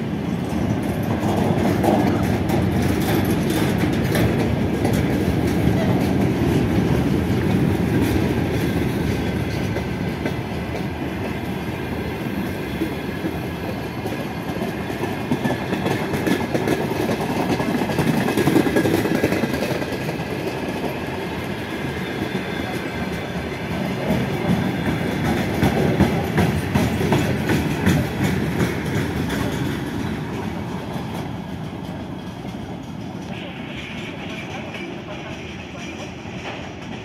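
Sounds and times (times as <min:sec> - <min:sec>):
freight train wagons rumbling: 0:00.0 - 0:37.0
wheels clicking over rail joints: 0:00.2 - 0:11.6, 0:12.7 - 0:37.0.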